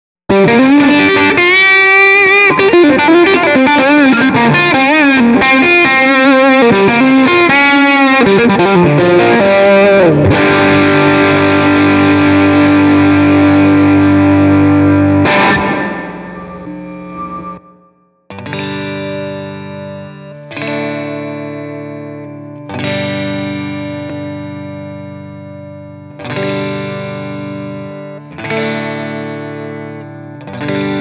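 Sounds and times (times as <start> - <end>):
electric guitar lead line: 0.3 - 31.0.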